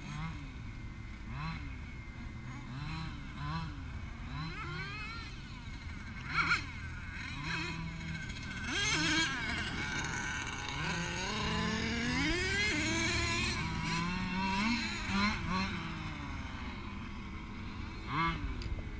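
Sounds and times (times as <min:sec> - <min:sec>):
small two-stroke engine revving: 0:00.0 - 0:18.9.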